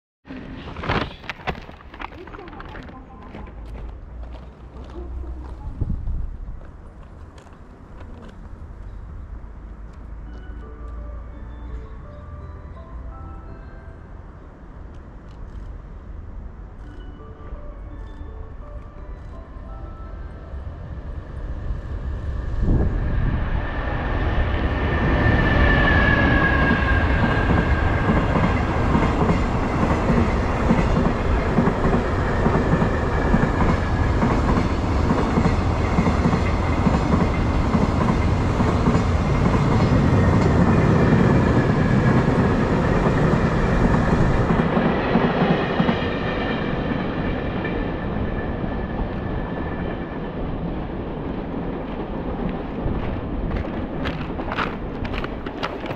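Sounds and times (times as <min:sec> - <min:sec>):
train wheels rumbling on rails: 0:00.3 - 0:11.0, 0:20.6 - 0:55.9
electric locomotive whine: 0:05.4 - 0:55.9.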